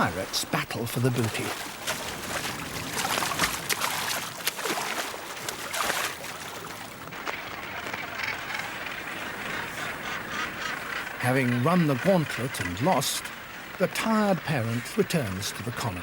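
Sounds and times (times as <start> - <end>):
sea water sloshing and splashing: 0.0 - 15.8.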